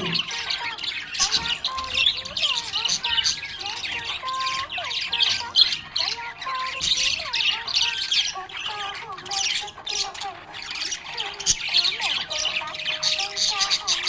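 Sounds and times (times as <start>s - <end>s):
budgerigar chattering: 0.0s - 14.0s.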